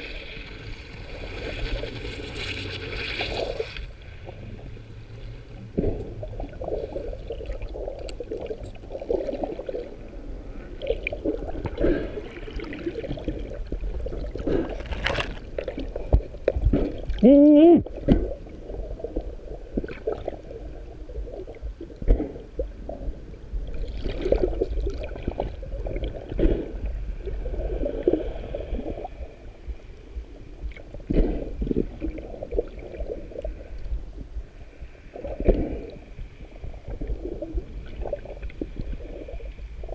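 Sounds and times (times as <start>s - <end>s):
muffled underwater churning: 0.0s - 39.9s.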